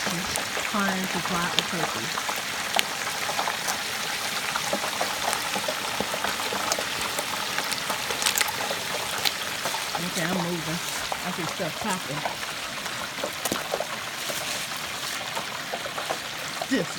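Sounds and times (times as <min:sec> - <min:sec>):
hot oil bubbling and hissing: 0:00.0 - 0:16.9
oil popping and crackling: 0:00.0 - 0:16.9.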